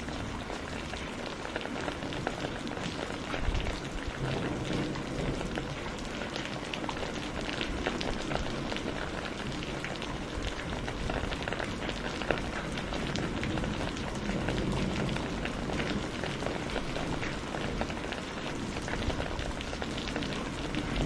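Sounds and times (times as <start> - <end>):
rain on hard surfaces: 0.0 - 21.0.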